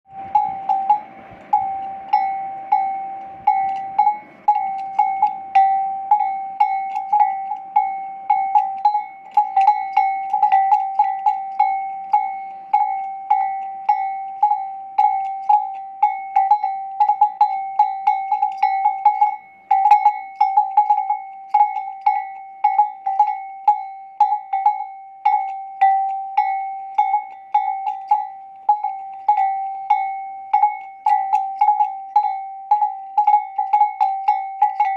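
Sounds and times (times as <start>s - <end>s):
metal neck bell clanking: 0.1s - 34.9s.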